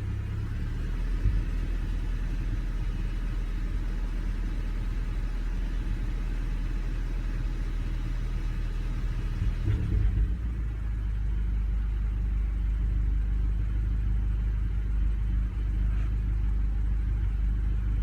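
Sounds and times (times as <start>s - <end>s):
engine idling unevenly: 0.0s - 18.0s.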